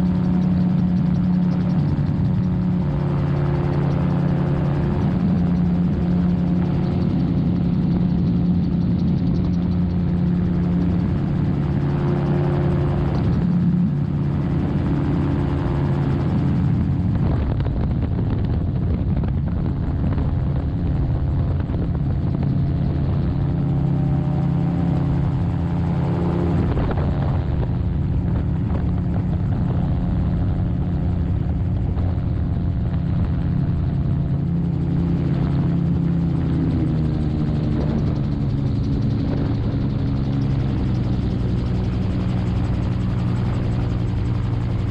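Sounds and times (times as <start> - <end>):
aircraft engine and propeller drone: 0.0 - 44.9.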